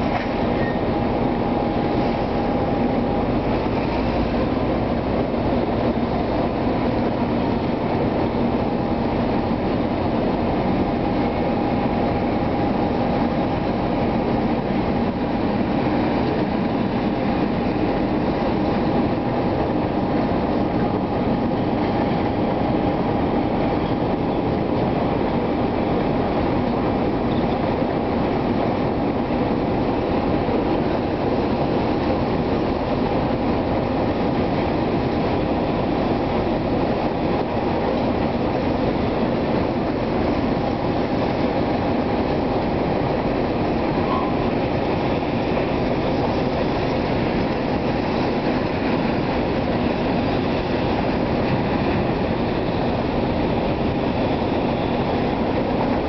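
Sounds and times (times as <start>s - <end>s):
freight train wagons rolling: 0.0s - 56.0s.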